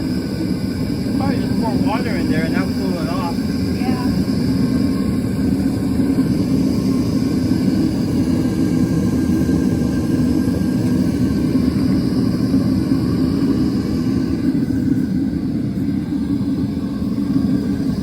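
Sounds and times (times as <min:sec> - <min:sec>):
propane torch rushing: 0:00.0 - 0:18.0.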